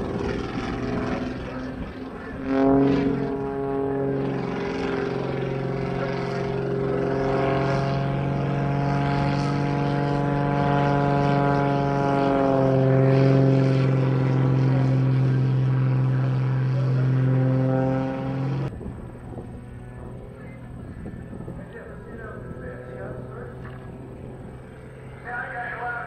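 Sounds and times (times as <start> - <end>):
biplane engine droning: 0.0 - 26.0.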